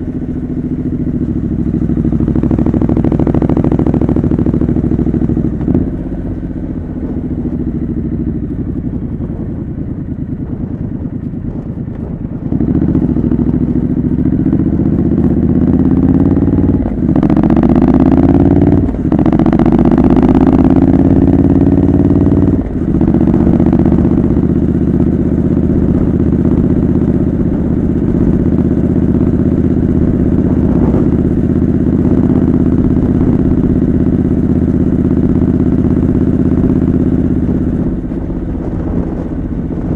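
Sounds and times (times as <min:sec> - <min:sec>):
motorcycle engine accelerating: 0:00.0 - 0:39.9
wind noise on microphone: 0:01.2 - 0:39.9.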